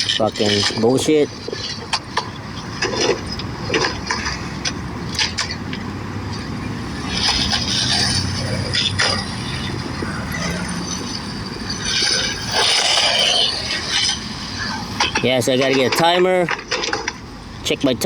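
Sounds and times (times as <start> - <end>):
skateboard wheels rolling on pavement: 0.0 - 18.0.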